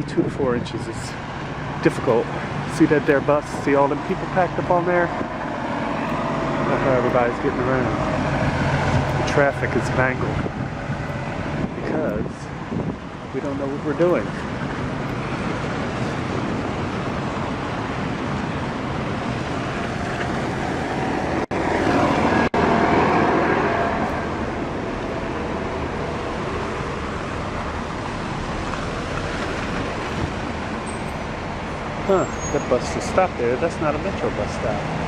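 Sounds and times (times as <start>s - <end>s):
road traffic: 0.0s - 35.0s
vehicle passing close: 1.0s - 13.4s, 14.0s - 35.0s.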